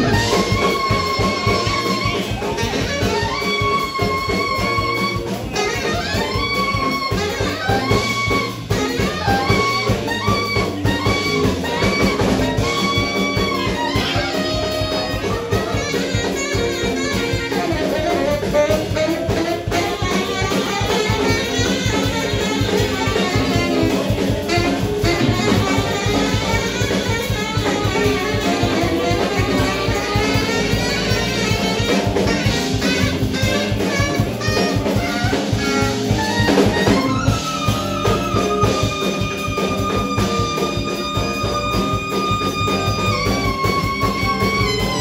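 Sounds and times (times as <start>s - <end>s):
drum kit: 0.0s - 45.0s
electric guitar: 0.0s - 45.0s
saxophone melody: 0.0s - 45.0s.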